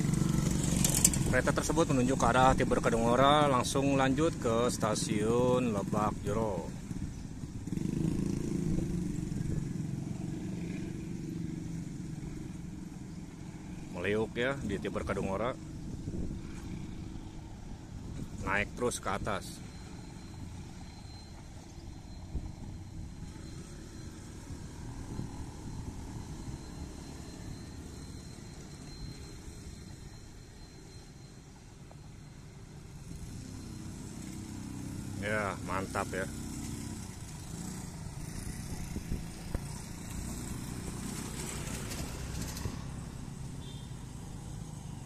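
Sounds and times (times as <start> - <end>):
scooter engine passing by: 0.0 - 14.8, 15.6 - 18.3, 19.6 - 45.0.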